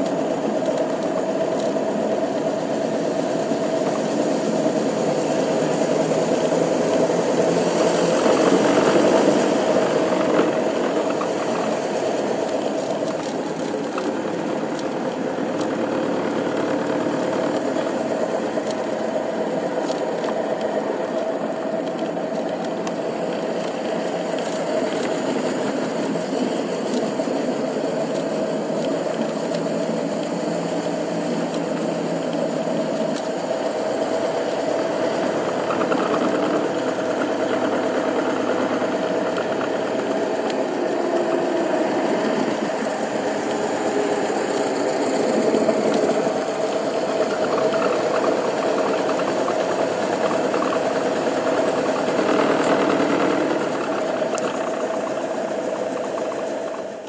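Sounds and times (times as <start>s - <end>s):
old car engine running: 0.0s - 57.0s.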